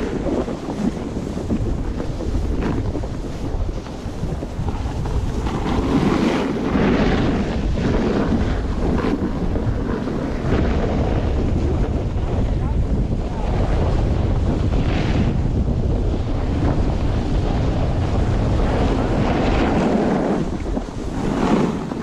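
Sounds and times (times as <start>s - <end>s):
snowboard sliding over snow: 0.0s - 22.0s
wind buffeting microphone: 0.0s - 22.0s.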